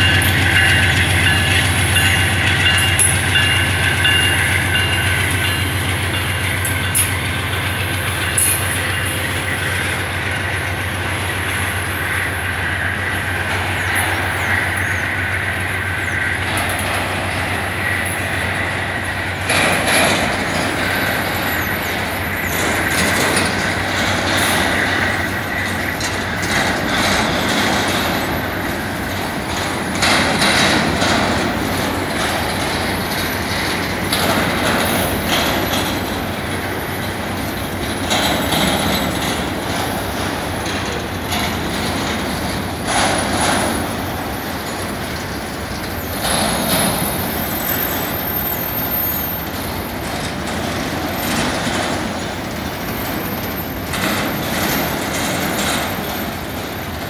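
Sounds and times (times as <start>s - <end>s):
freight train wheels rumbling: 0.0s - 57.0s
high wheel squeal: 0.0s - 57.0s
wheels clacking over rail joints: 0.0s - 57.0s.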